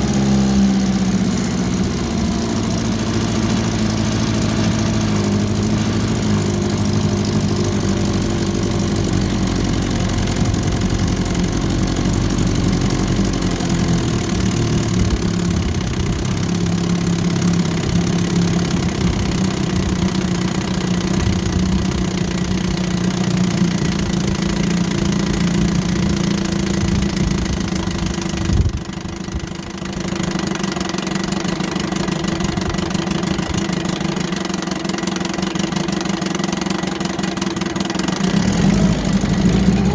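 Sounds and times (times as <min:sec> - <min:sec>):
outboard motor running: 0:00.0 - 0:39.9
sharp engine knock: 0:00.0 - 0:39.9.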